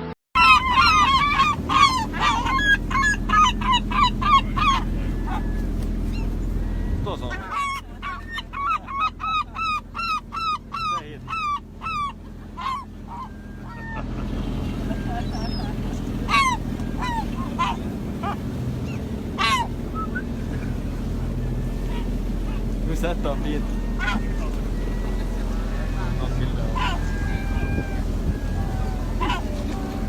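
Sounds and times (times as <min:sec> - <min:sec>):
geese honking: 0:00.4 - 0:30.0.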